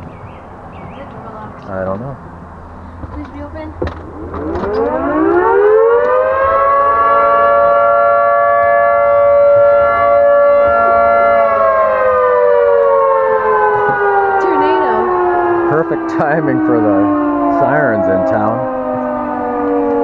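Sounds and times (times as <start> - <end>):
warning siren wailing: 3.2 - 20.0.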